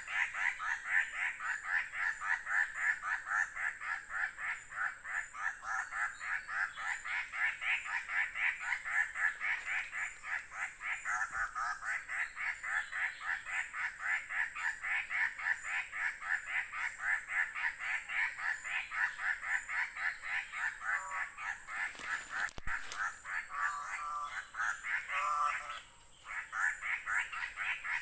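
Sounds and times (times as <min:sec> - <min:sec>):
lower fuller bird calls: 0:00.0 - 0:28.0.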